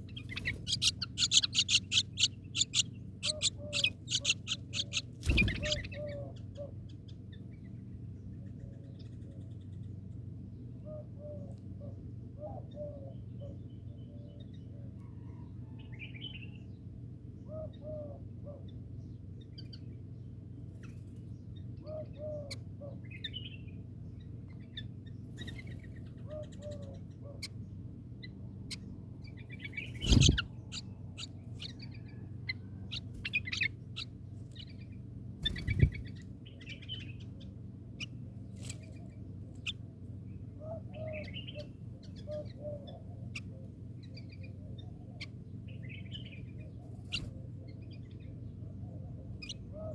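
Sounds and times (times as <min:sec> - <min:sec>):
small birds chirping: 0:00.0 - 0:18.0, 0:18.6 - 0:49.9
steady low hum: 0:00.0 - 0:49.9.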